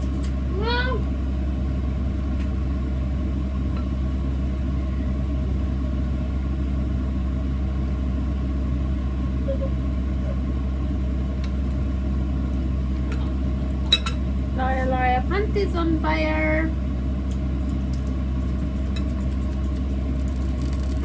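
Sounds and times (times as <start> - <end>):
household machine humming: 0.0 - 21.0.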